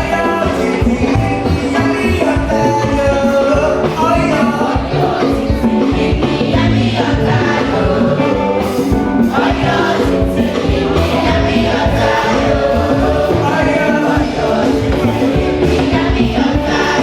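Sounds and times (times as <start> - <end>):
choir singing gospel: 0.0 - 17.0
instrumental accompaniment with percussion: 0.0 - 17.0.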